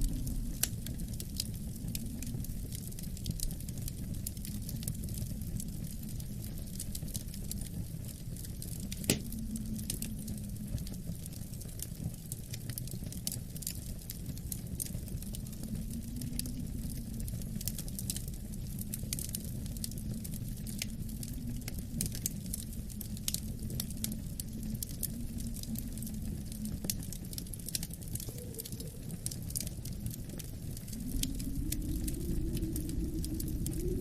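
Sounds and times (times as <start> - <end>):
howling wind: 0.0 - 34.0
wood fire crackling: 0.0 - 34.0.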